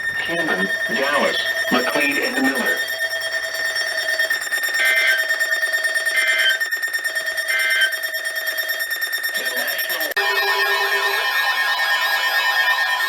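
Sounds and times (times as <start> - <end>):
continuous electronic tone: 0.0 - 13.0
two-tone digital data warble: 0.0 - 13.0.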